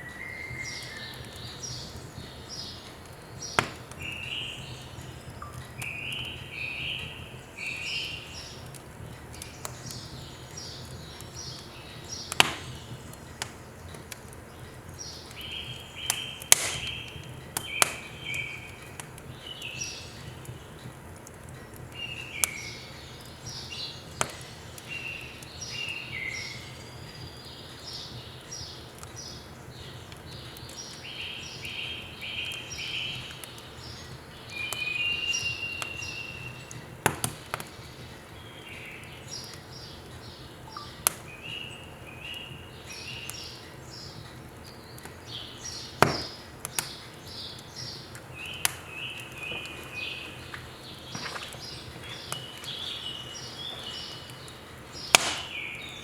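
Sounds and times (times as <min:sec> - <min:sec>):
firewood crackling and popping: 0:00.0 - 0:56.0
small birds chirping: 0:00.0 - 0:56.0.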